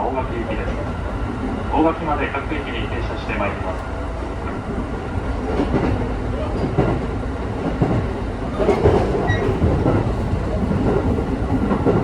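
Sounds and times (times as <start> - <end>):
train carriage rumble and hum: 0.0 - 12.0.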